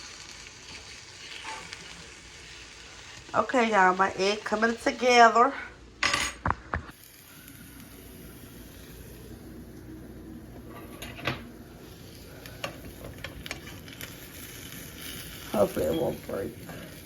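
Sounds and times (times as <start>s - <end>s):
eggs sizzling in a frying pan: 0.0s - 17.0s.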